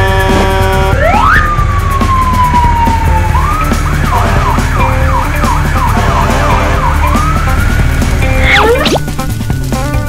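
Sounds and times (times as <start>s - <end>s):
fire engine siren: 0.0s - 8.9s.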